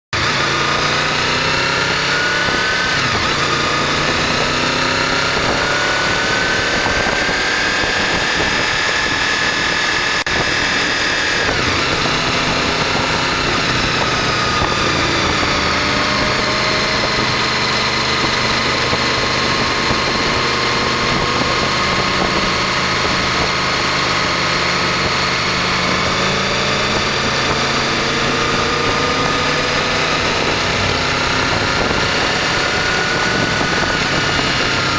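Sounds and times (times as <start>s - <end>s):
motorcycle engine running: 0.1s - 34.9s
wind and road noise: 0.2s - 34.9s.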